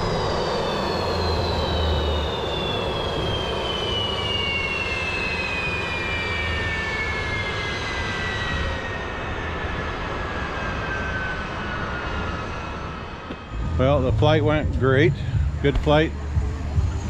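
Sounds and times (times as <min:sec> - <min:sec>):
jet turbine spooling down: 0:00.0 - 0:17.0.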